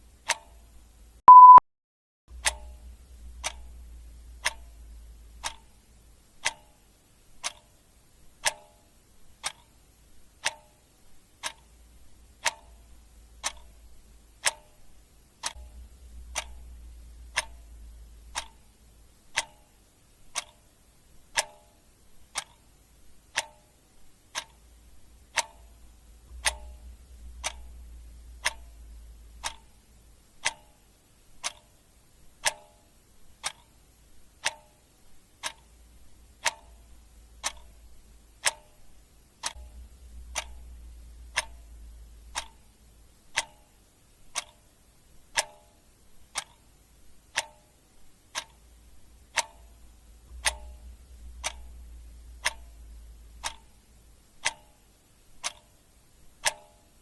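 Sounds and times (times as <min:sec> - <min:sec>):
clock ticking: 0:00.0 - 0:01.6, 0:02.3 - 0:57.0.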